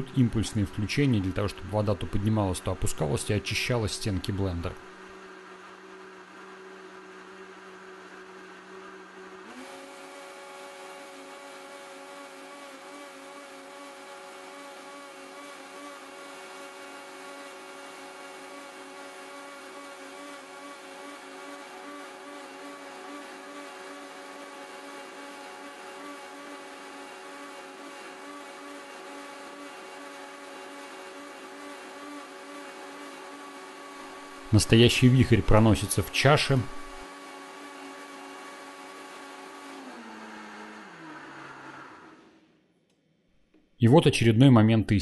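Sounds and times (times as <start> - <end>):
blender running: 0.0 - 42.7.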